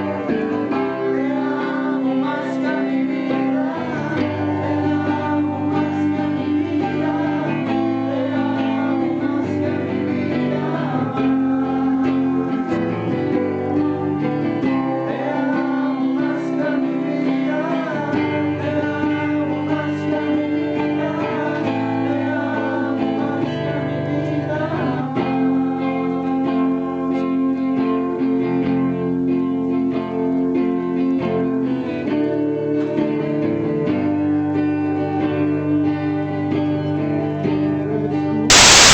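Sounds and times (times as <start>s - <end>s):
voices singing praise song: 0.0s - 27.7s, 34.5s - 38.9s
acoustic guitar strumming chords: 0.0s - 31.6s, 38.5s - 38.9s.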